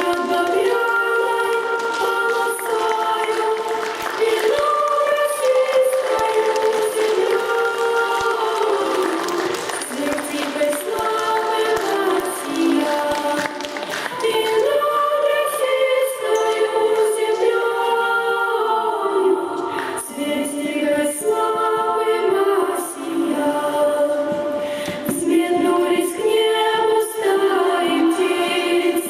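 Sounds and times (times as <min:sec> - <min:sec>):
choir singing long notes: 0:00.0 - 0:29.0.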